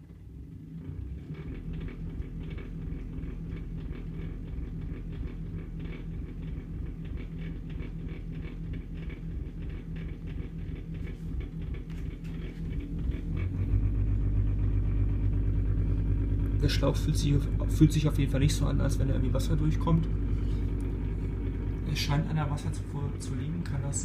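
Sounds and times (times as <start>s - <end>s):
dishwasher pump humming: 0.0s - 24.0s
harsh rattling crackle: 0.7s - 24.0s.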